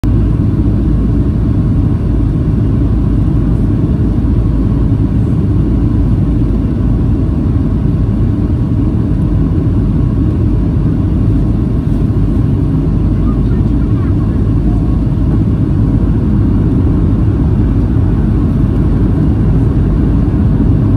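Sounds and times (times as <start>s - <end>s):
airplane cabin rumble: 0.0s - 20.9s.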